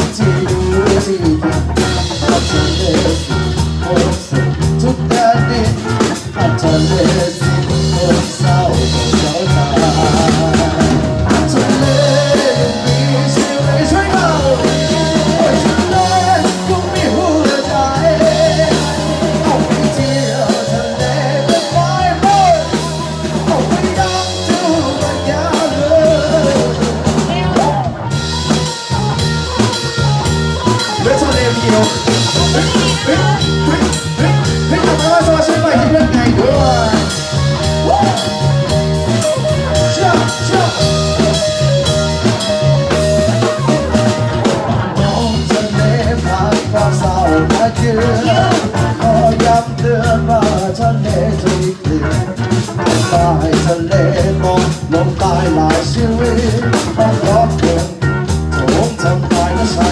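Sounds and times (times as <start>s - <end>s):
bass notes: 0.0s - 59.9s
drum kit: 0.0s - 59.9s
electric guitar: 0.0s - 59.9s
person singing: 0.0s - 59.9s.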